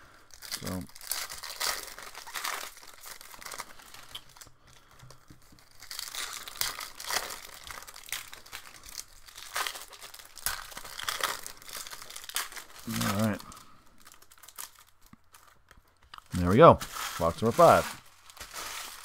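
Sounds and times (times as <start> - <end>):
plastic packaging crinkling and tearing: 0.1 - 19.0.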